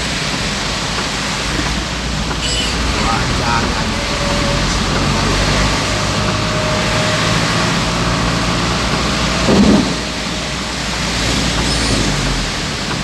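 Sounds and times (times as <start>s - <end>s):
car engine and road noise: 0.0s - 13.0s
heavy rain on car: 0.0s - 13.0s.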